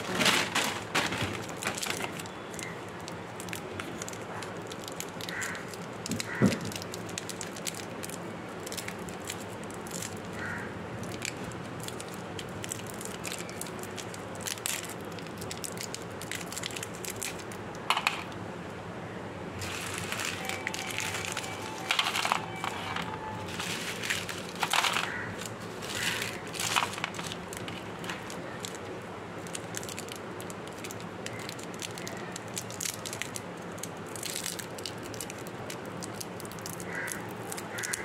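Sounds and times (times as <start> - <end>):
plastic wrappers crinkling: 0.0 - 18.4, 19.6 - 38.0.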